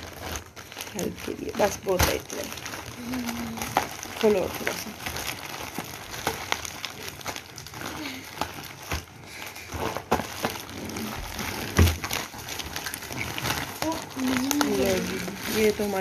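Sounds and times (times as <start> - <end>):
plastic and bubble wrap crinkling: 0.0 - 16.0.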